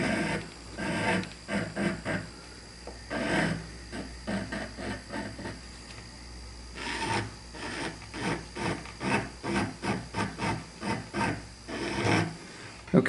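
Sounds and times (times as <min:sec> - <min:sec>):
rotary tool rasping into wood: 0:00.0 - 0:02.3, 0:03.1 - 0:05.6, 0:06.8 - 0:12.4.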